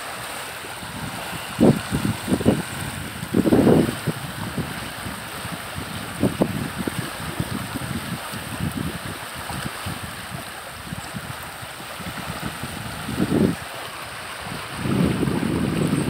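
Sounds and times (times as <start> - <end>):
rushing creek water: 0.0 - 16.0
wind buffeting on microphone: 0.0 - 16.0.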